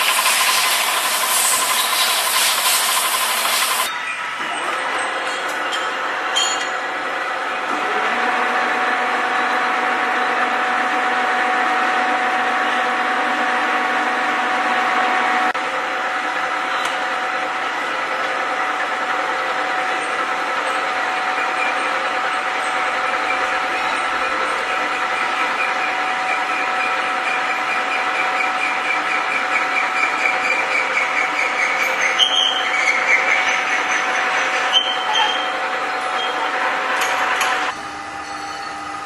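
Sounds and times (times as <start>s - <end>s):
machine whine: 0.0s - 39.0s.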